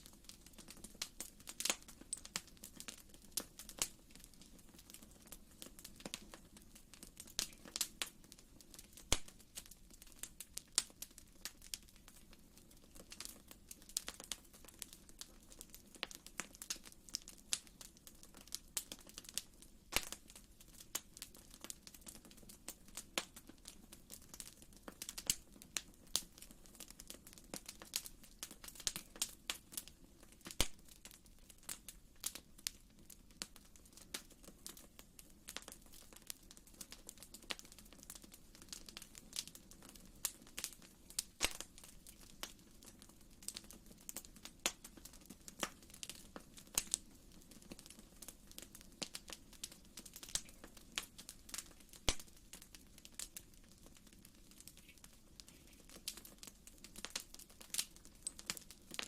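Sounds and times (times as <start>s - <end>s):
faint low hiss: 0.0s - 59.0s
wood fire crackling: 0.0s - 59.0s.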